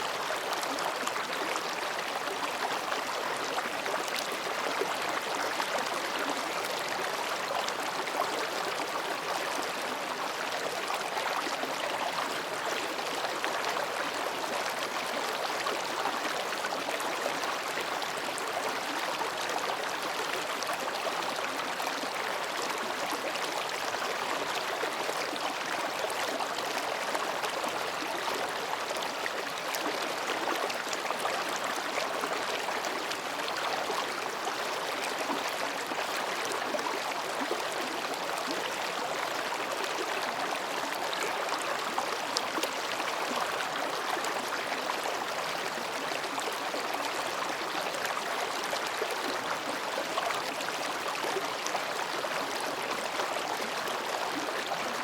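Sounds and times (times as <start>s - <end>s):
stream babbling over rocks: 0.0s - 55.0s.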